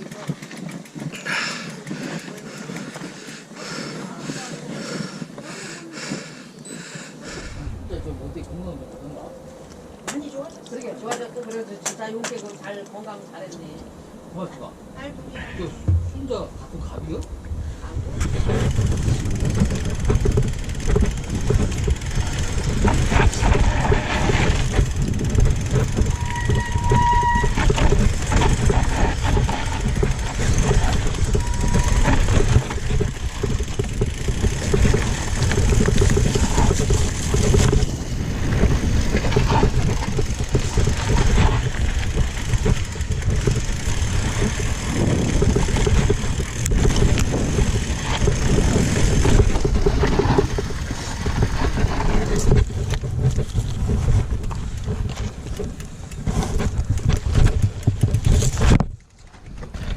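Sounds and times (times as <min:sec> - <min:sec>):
bike rattling and clicking: 0:00.0 - 0:07.6, 0:15.9 - 0:59.9
wind rushing over microphone: 0:07.2 - 0:10.6, 0:13.9 - 0:59.9.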